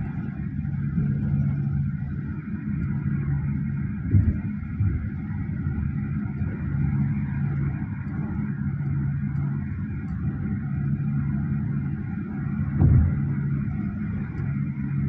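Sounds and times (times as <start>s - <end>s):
engine and tyre hum in cabin: 0.0s - 15.0s.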